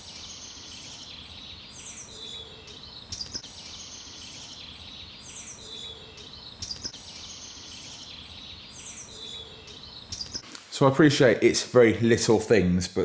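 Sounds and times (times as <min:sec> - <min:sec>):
dense high bird chirping: 0:00.0 - 0:11.3.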